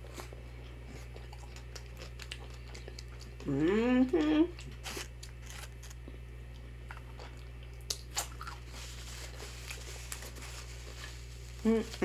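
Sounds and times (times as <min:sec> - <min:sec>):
chewing fried food: 0:00.0 - 0:12.0.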